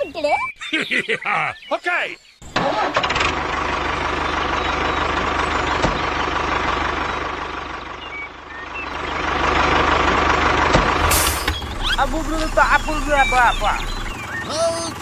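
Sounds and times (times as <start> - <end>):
heavy vehicle engine running: 2.5 - 15.0.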